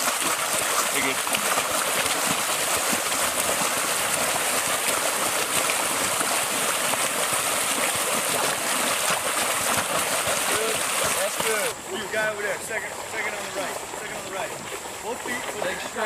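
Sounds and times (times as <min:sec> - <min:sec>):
muddy water splashing: 0:00.0 - 0:16.0.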